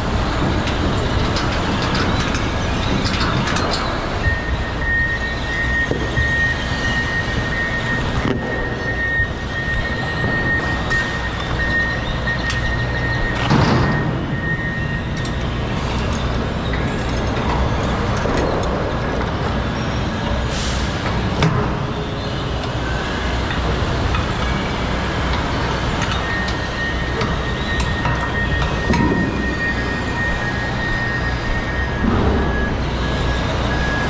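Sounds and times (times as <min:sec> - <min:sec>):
truck engine and road rumble: 0:00.0 - 0:34.0.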